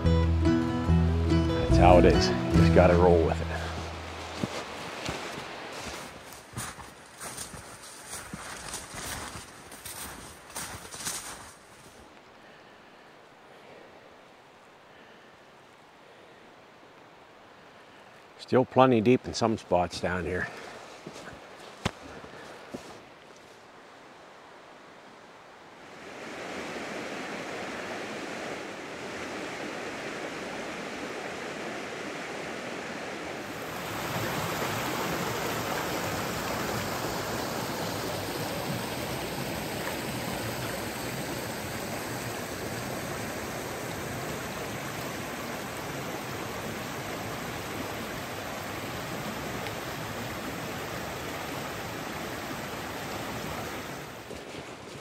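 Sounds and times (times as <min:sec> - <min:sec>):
running water rushing: 0:01.7 - 0:12.0, 0:16.6 - 0:55.0.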